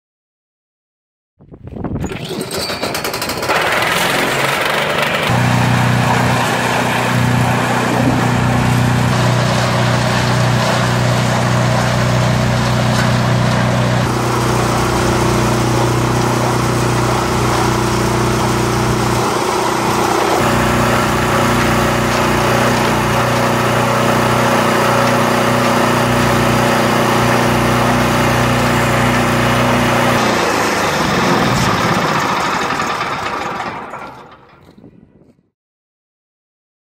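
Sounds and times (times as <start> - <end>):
drum grinding clatter: 2.0 - 34.8
concrete mixer engine running: 2.0 - 35.0.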